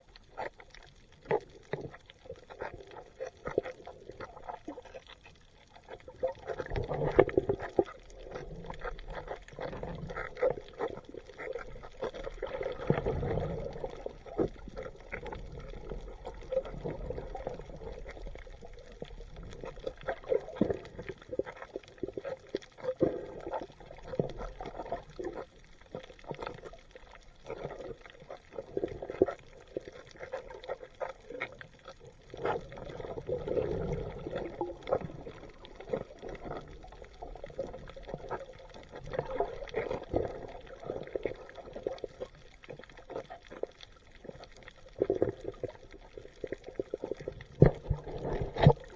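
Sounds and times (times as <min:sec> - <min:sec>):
small clicks and crackles: 0:00.0 - 0:48.9
water gurgling and trickling: 0:00.0 - 0:48.9.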